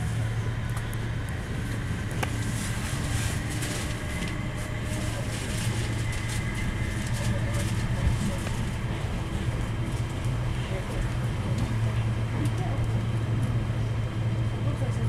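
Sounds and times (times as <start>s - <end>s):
train rumbling inside carriage: 0.0s - 15.0s.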